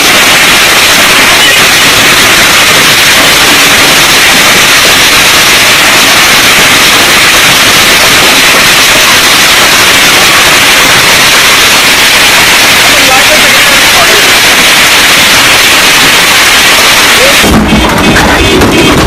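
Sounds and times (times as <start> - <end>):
heavy hail pelting down: 0.0 - 19.0.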